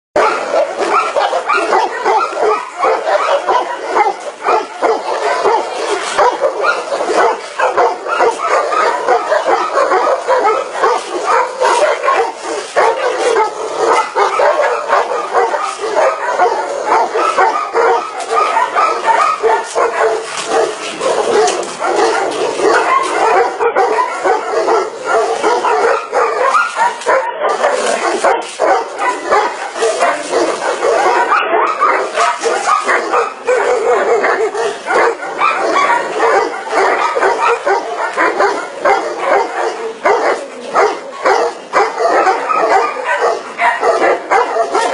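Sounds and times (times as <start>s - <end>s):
many dogs barking and yelping: 0.2s - 44.9s.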